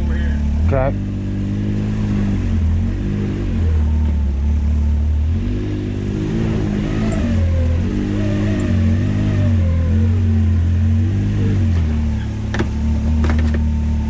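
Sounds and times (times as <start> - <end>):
off-road vehicle engine at low revs: 0.0 - 14.0.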